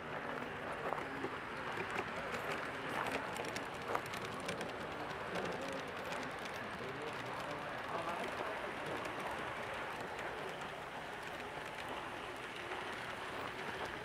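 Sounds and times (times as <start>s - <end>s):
model train cars rolling: 0.0s - 14.0s
model train wheels clicking on rails: 0.0s - 14.0s.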